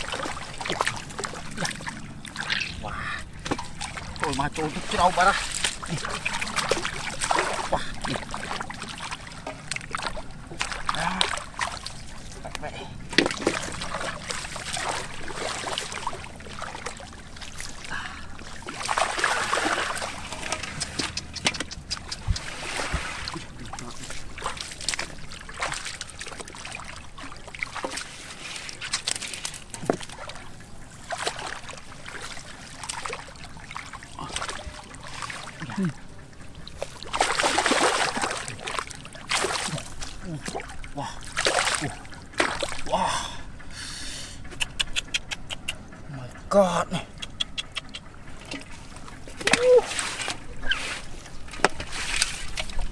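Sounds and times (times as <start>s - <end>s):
water sloshing and splashing: 0.0s - 52.9s.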